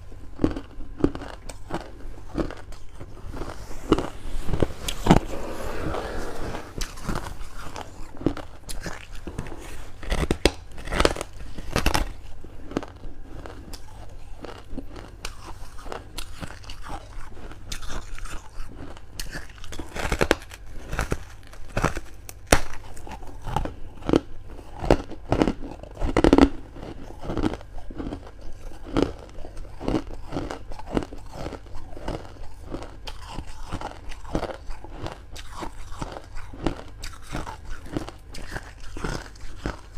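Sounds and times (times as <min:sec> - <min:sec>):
crunchy chewing of ice: 0:00.0 - 0:39.9.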